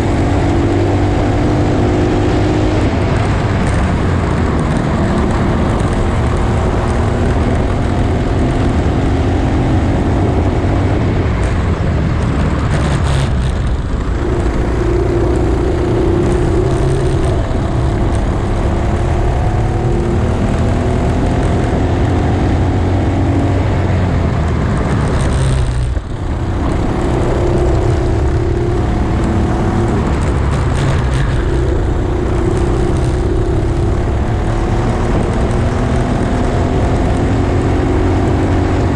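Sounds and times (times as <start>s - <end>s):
constant low rumble: 0.0s - 38.9s
kart engine accelerating: 0.0s - 38.9s.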